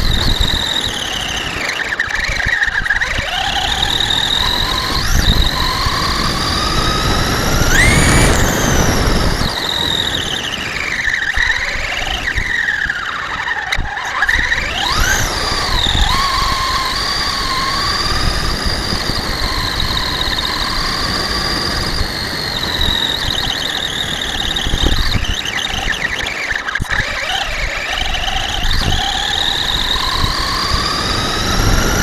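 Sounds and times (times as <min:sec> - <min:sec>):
rc truck electric motor whining: 0:00.0 - 0:32.0.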